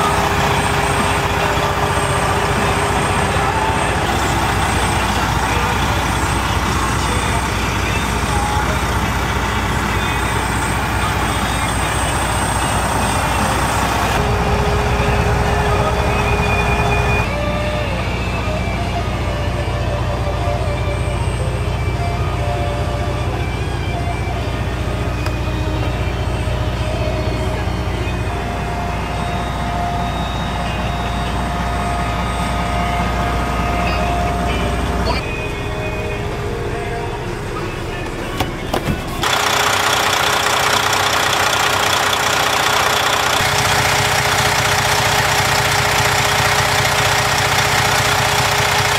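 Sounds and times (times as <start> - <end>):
diesel engine rumbling: 0.0 - 48.9.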